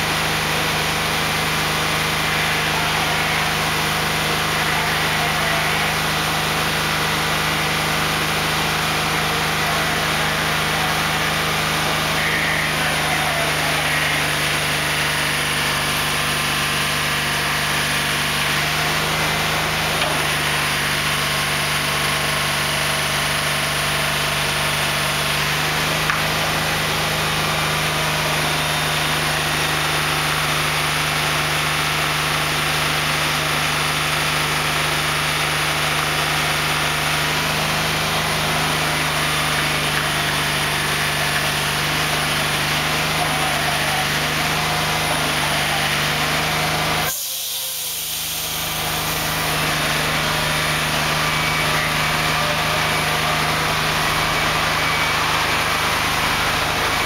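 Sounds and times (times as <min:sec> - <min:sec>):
diesel engine running at low revs: 0:00.0 - 0:57.0.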